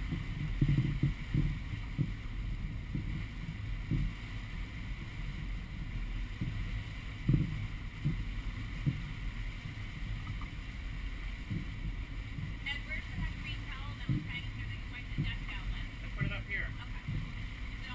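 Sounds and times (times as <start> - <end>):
boat engine drone: 0.0 - 17.9
dull low thumps: 0.0 - 17.9
water noise: 0.0 - 17.9
wind noise: 0.0 - 17.9.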